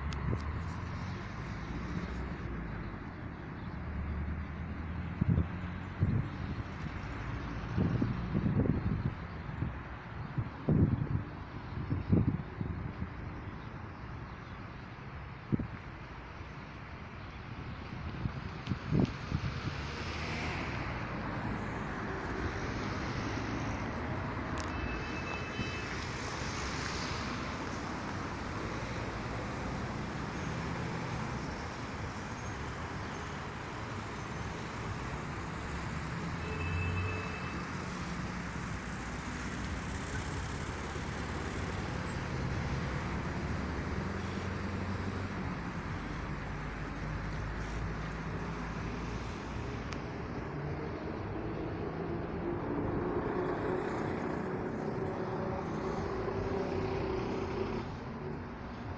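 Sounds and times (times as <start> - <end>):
road traffic passing: 0.0 - 58.9.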